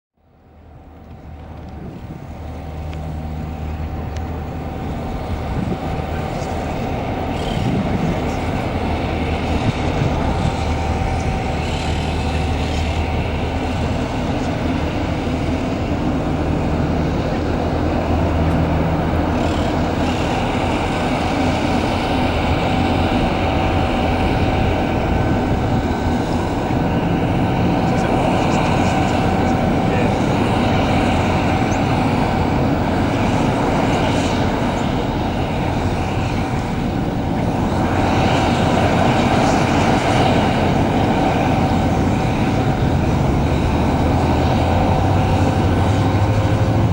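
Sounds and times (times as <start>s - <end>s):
jet engine whine: 0.2s - 46.9s
low rumble: 0.6s - 46.9s.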